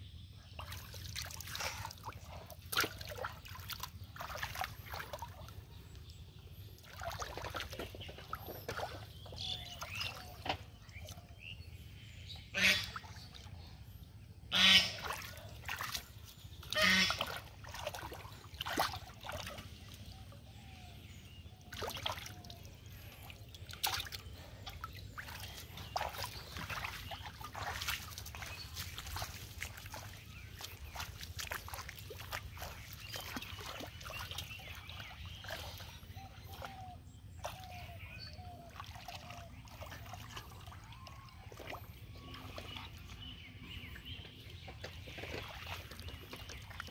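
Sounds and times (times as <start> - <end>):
hands splashing in muddy water: 0.5 - 5.7, 6.8 - 11.2, 14.6 - 21.0, 21.6 - 46.9.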